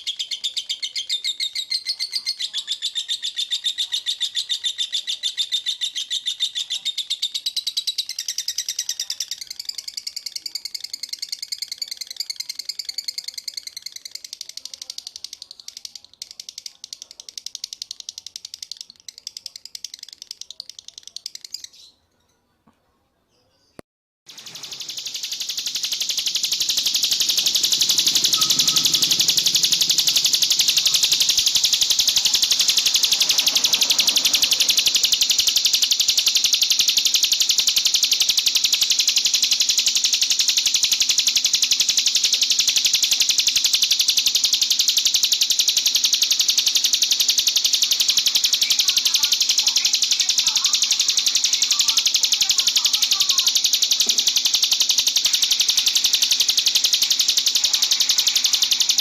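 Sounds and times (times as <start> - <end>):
songbird trilling: 0.0 - 22.0, 24.3 - 59.0.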